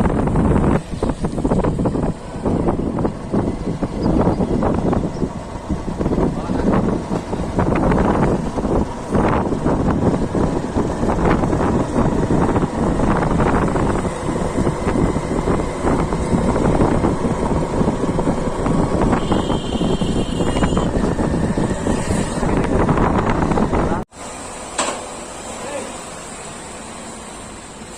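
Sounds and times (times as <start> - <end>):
combine harvester running: 0.0 - 20.3, 20.9 - 27.9
wind buffeting microphone: 0.0 - 24.1.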